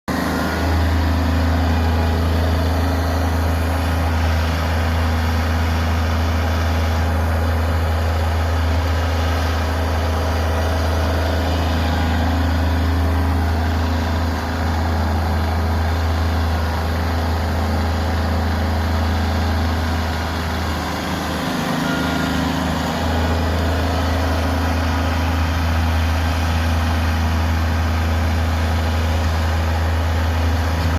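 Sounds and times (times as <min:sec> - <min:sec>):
loader engine humming: 0:00.1 - 0:30.9.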